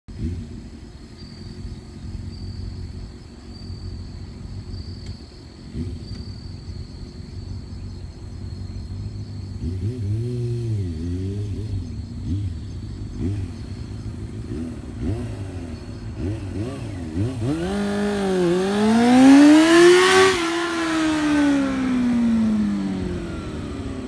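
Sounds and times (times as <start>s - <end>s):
engine revving: 0.1s - 3.0s, 5.6s - 24.0s
motorcycle engine idling: 0.1s - 24.0s.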